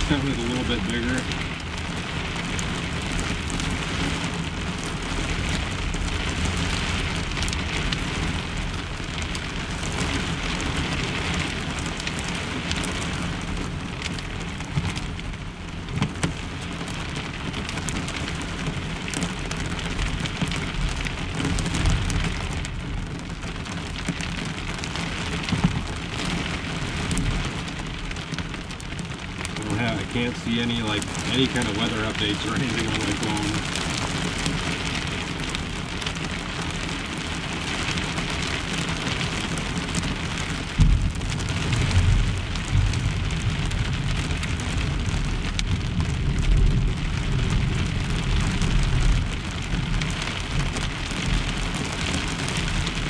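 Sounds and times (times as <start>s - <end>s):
heavy rain on truck shell: 0.0s - 53.0s.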